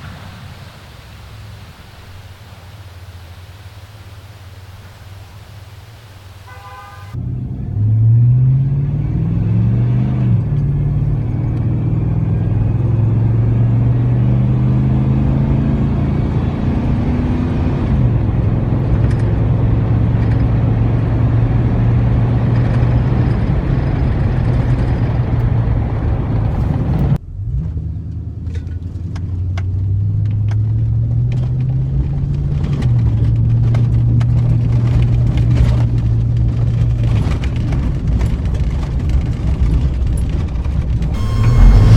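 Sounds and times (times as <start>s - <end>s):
car exhaust accelerating: 0.0s - 40.1s, 40.9s - 41.9s.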